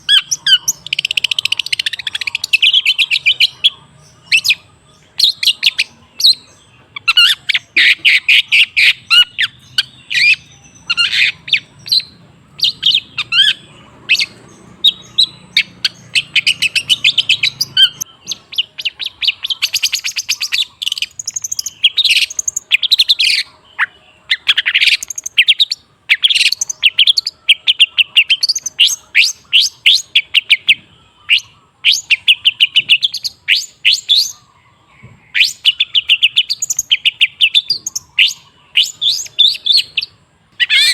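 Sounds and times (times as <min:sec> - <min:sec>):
shrike singing chattering song: 0:00.0 - 0:40.9.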